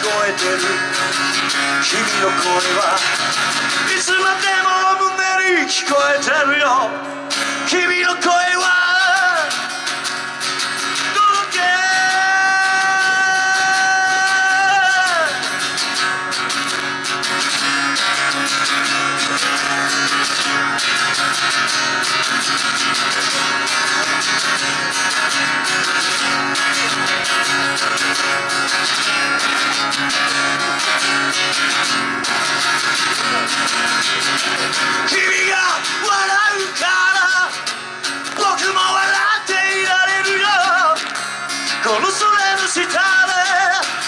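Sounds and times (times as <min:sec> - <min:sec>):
acoustic guitar strummed: 0:00.0 - 0:44.0.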